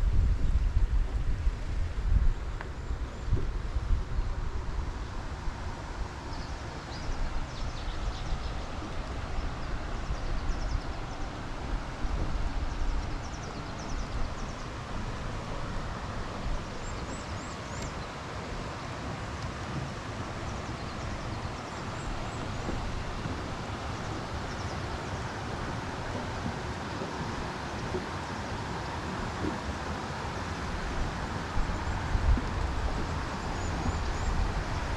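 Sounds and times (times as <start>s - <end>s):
steady rushing background noise: 0.0s - 34.9s
wind buffeting microphone: 0.0s - 34.9s.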